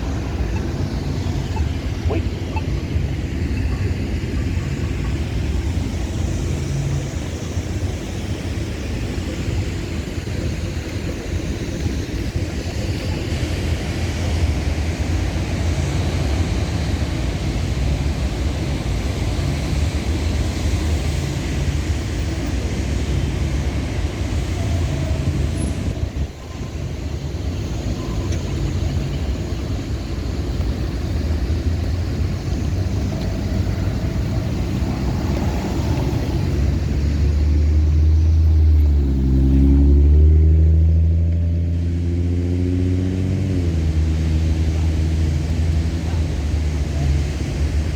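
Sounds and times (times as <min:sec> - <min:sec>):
street traffic rumble: 0:00.0 - 0:47.9
vehicle engine accelerating: 0:00.0 - 0:47.9.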